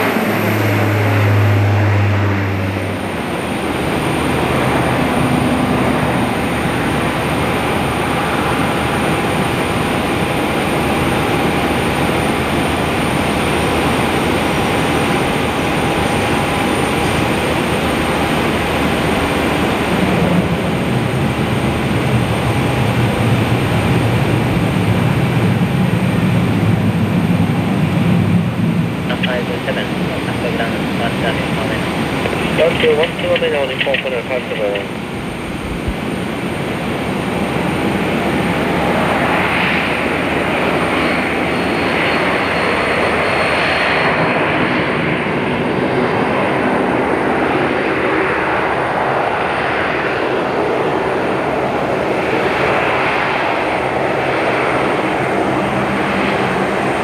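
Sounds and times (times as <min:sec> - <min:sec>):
propeller drone: 0:00.0 - 0:57.0.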